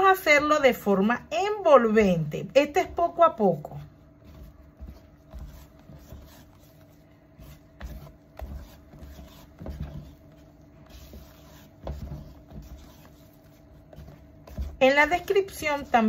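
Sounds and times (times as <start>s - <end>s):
wet batter squelches: 2.4s - 16.0s
spatula scraping a plastic bowl: 2.8s - 16.0s.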